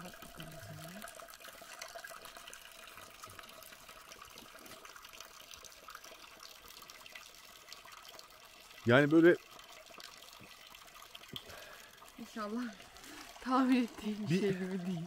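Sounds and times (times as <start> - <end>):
water running from fountain spout: 0.0 - 15.0.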